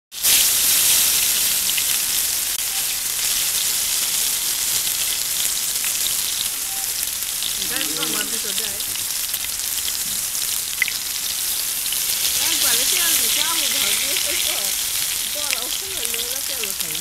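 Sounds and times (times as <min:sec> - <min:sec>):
eggplant sizzling in hot oil: 0:00.1 - 0:17.0.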